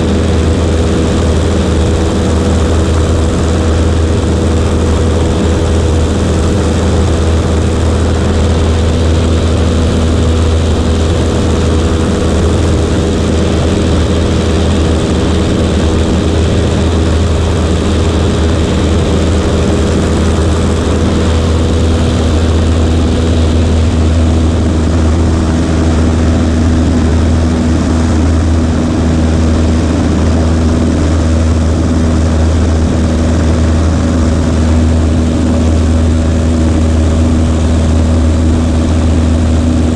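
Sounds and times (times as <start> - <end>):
small plane engine droning: 0.0 - 39.9.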